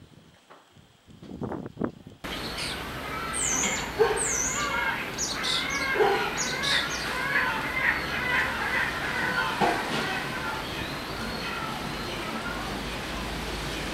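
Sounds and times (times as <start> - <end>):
steady hiss: 0.0 - 13.9
small birds chirping: 2.2 - 13.9.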